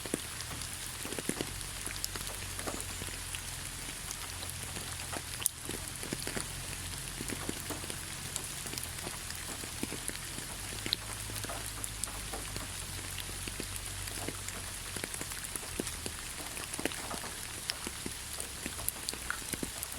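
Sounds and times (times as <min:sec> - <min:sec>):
rain falling on leaves: 0:00.0 - 0:19.9.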